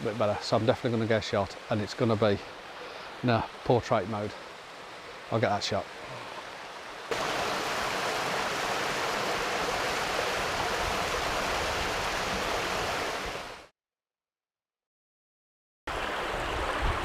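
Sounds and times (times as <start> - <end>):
waterfall rushing: 0.0 - 13.7.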